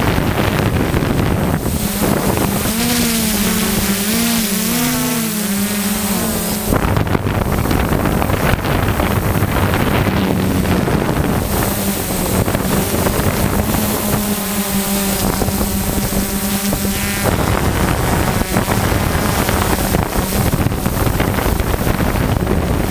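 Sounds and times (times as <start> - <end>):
drone motors humming: 0.0 - 22.9
wind rush on microphone: 0.0 - 22.9.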